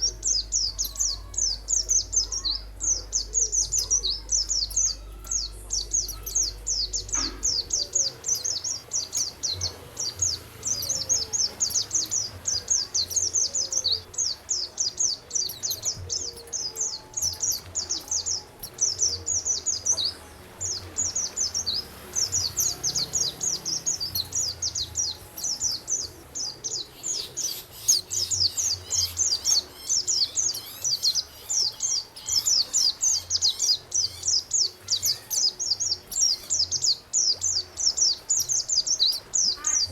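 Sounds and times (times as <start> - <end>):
songbird singing fast chatter: 0.0 - 39.9.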